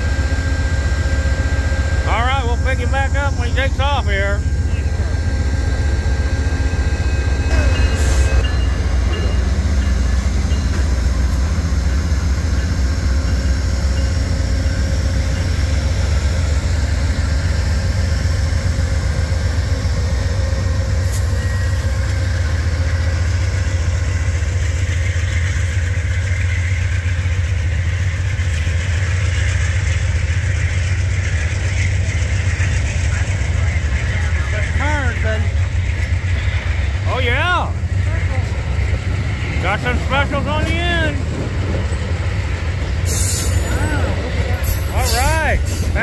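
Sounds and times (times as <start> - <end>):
diesel locomotive engines rumbling: 0.0 - 46.0
train wheels on rails: 0.0 - 46.0.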